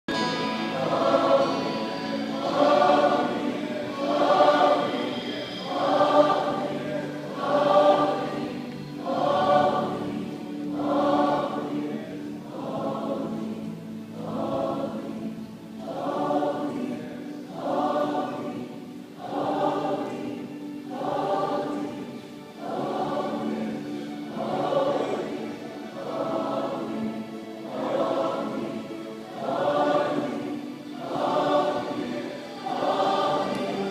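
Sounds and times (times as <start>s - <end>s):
choir singing: 0.1s - 33.9s.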